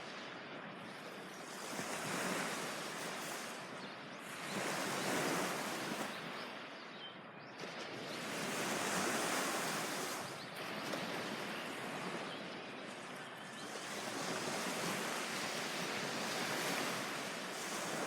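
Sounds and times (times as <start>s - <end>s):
waves washing onto beach: 0.0s - 6.6s, 7.6s - 18.0s.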